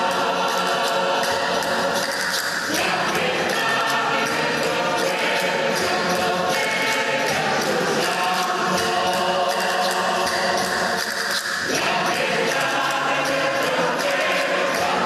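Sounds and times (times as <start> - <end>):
mixed choir singing folk song: 0.0 - 15.0
tambourines beating rhythm: 0.0 - 15.0.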